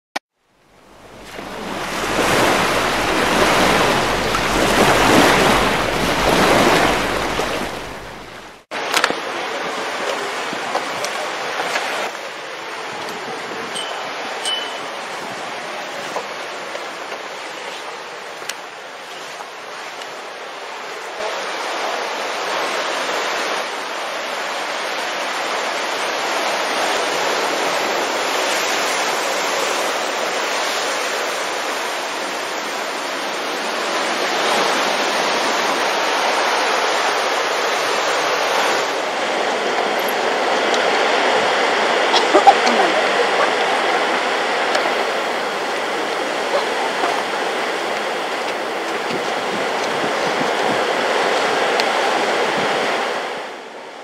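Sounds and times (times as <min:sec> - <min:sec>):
surf washing over rocks: 0:00.7 - 0:54.0.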